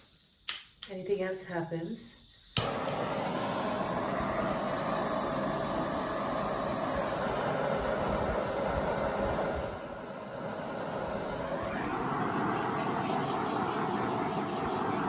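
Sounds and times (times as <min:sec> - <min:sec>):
torch flame hissing: 0:01.9 - 0:15.0.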